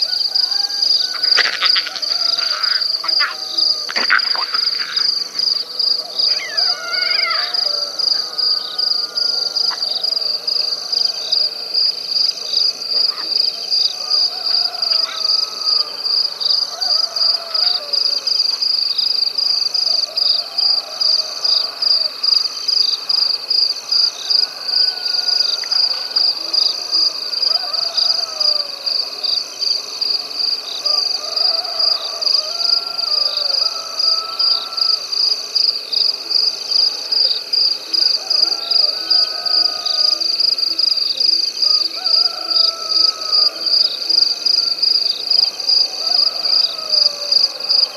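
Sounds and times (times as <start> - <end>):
crickets trilling: 0.0 - 47.9
wavering night creature calls: 0.0 - 47.9.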